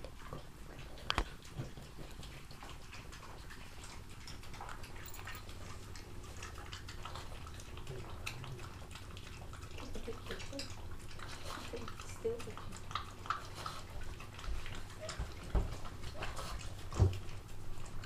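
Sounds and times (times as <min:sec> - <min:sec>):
dog licking and chewing: 0:00.0 - 0:18.0.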